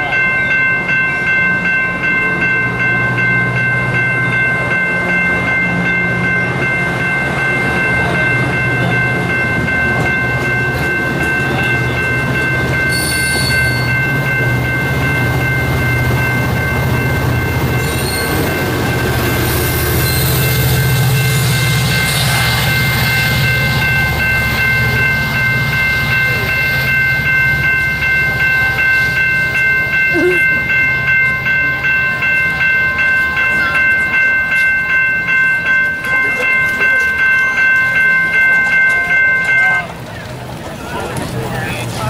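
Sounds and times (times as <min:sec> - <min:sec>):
crossing bell ringing: 0:00.0 - 0:42.0
passenger train rumbling past: 0:00.0 - 0:42.0.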